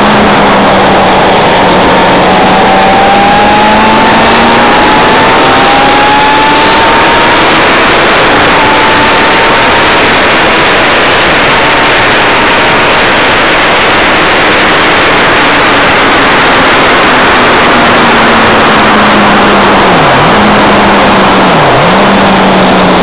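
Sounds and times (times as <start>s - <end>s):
wind roar on microphone: 0.0s - 23.0s.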